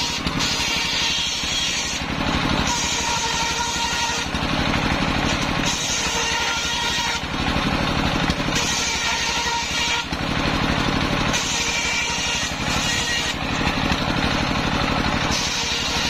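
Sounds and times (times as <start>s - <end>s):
circular saw cutting wood: 0.0s - 16.0s
stationary engine running: 0.0s - 16.0s.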